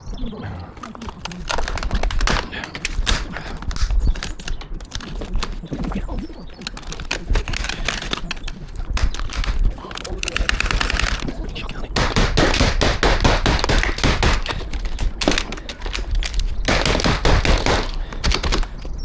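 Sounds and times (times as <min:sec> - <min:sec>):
roof sheeting cracking and clattering: 0:00.7 - 0:19.0.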